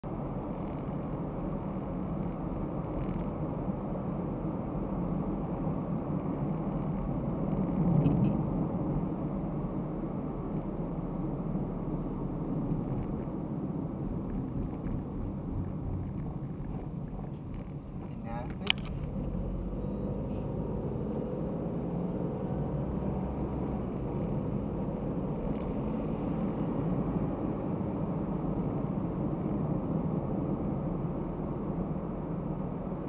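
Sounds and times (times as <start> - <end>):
car tyre and engine rumble: 0.0 - 33.0.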